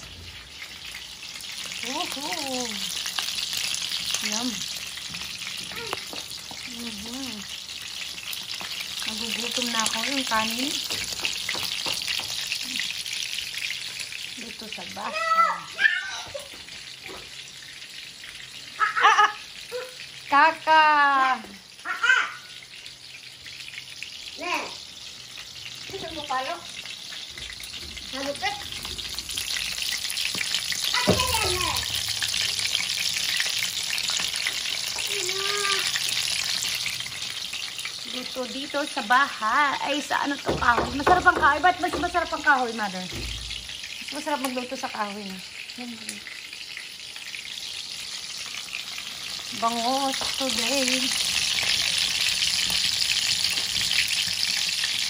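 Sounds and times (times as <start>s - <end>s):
fish sizzling in oil: 0.0s - 55.0s.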